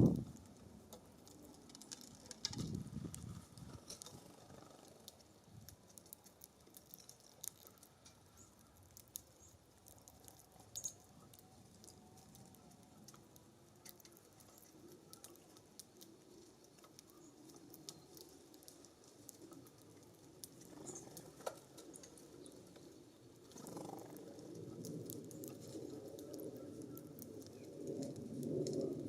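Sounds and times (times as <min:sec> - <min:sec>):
birds pecking at seed feeder: 0:00.1 - 0:29.0.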